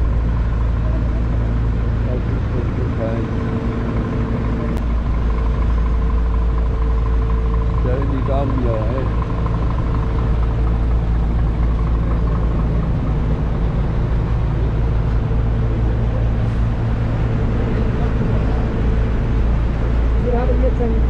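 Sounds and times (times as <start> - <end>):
engine idling hum: 0.0 - 21.0.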